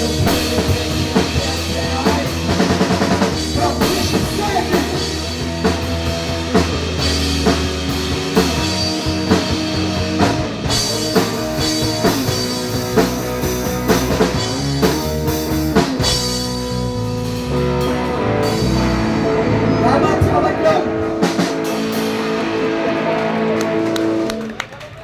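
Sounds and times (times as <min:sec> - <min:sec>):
drum kit beating: 0:00.0 - 0:24.6
rock band playing instrumental: 0:00.0 - 0:24.7.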